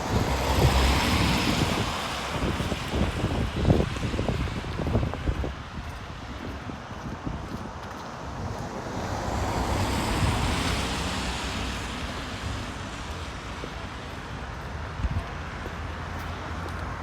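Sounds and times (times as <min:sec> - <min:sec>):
vehicle passing tyre noise: 0:00.0 - 0:17.0
wind rumble on microphone: 0:00.0 - 0:17.0.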